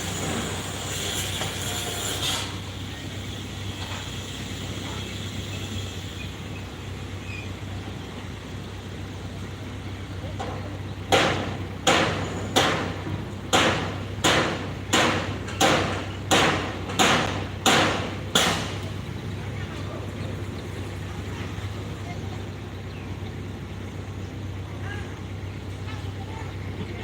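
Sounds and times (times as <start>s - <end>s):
construction machinery engine hum: 0.0s - 27.0s.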